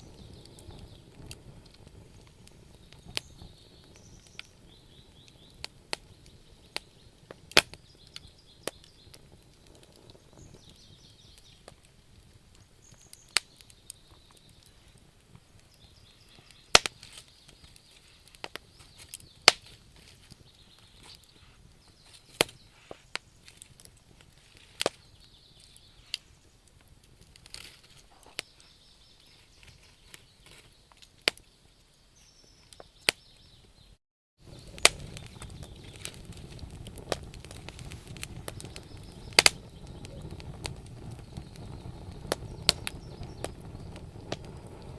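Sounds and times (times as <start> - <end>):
low hiss of flames: 0.0 - 33.6, 34.4 - 44.9
wood fire crackling and popping: 0.0 - 33.7, 34.4 - 44.9.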